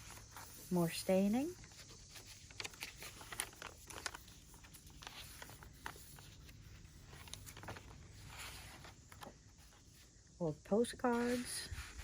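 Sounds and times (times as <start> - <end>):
paper pages rustling: 0.0 - 10.3.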